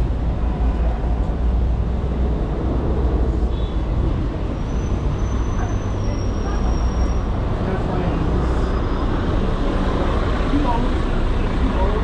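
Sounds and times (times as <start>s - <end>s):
deep traffic rumble: 0.0s - 12.0s
vehicles passing: 0.0s - 12.0s.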